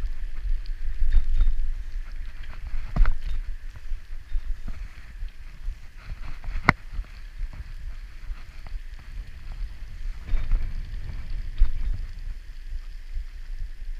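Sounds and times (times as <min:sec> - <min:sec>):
bicycle rattles and clicks: 0:00.0 - 0:13.9
wind rumble on microphone: 0:00.0 - 0:13.9.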